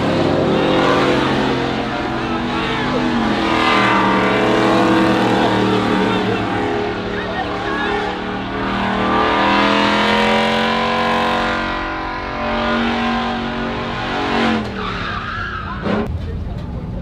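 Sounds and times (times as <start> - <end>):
truck engine revving hard: 0.0 - 16.2.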